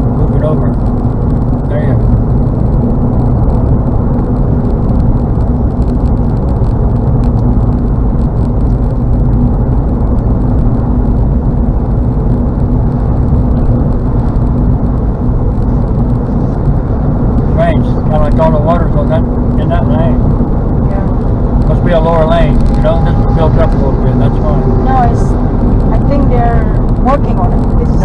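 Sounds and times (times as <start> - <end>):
car road noise from inside: 0.0 - 28.0.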